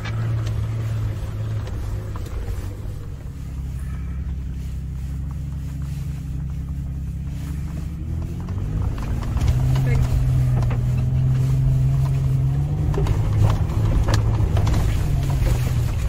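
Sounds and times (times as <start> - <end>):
engine pulling in low gear: 0.0 - 16.0.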